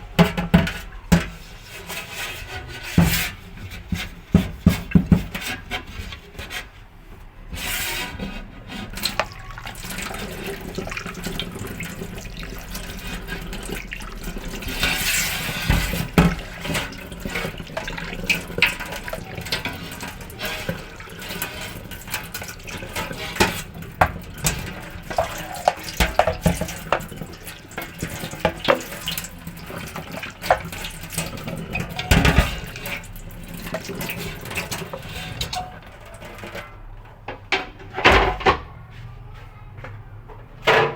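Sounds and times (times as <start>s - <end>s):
tap water running into sink: 0.0s - 6.6s, 7.5s - 36.6s
knocks and clatters of parts: 0.0s - 7.4s, 12.6s - 38.9s, 39.9s - 40.9s.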